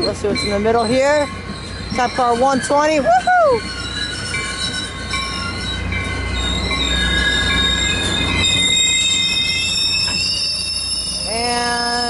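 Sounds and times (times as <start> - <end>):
train rumble: 0.0 - 12.0
train wheels squealing: 0.0 - 12.0.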